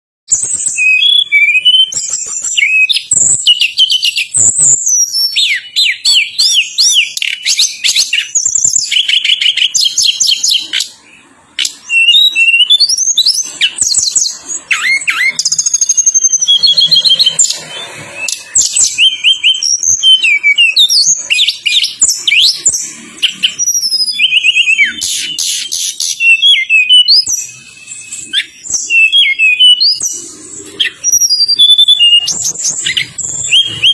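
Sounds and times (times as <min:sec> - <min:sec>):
songbird singing trills and whistles: 0:00.3 - 0:33.9.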